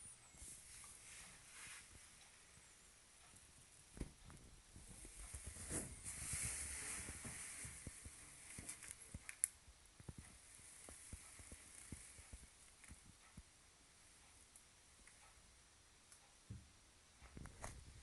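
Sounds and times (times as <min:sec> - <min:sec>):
soft hiss: 0:00.0 - 0:18.0.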